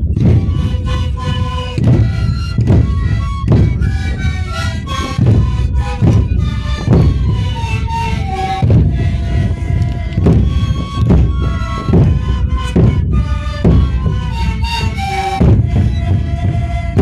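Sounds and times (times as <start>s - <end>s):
bass drums beating: 0.0s - 17.0s
panpipes playing melody: 0.0s - 17.0s.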